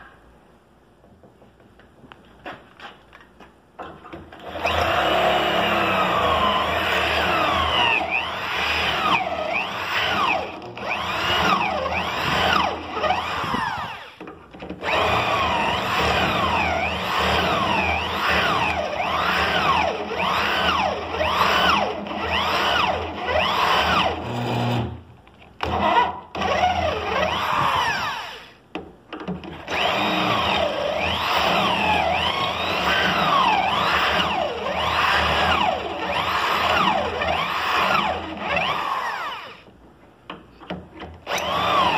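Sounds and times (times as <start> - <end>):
electric drill boring holes: 4.4 - 14.2, 14.8 - 24.9, 25.6 - 28.6, 29.6 - 39.7, 41.2 - 41.9.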